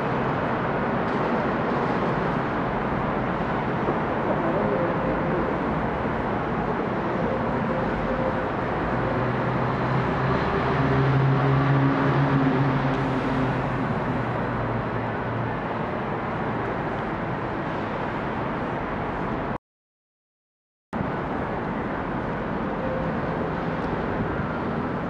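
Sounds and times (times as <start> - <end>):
street traffic noise: 0.0 - 19.6, 21.0 - 25.0.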